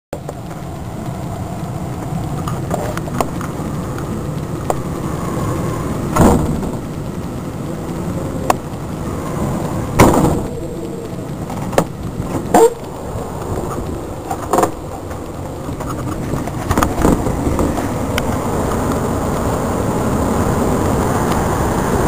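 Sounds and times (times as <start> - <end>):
heavy rain: 0.1 - 22.0
storm wind: 0.1 - 22.0.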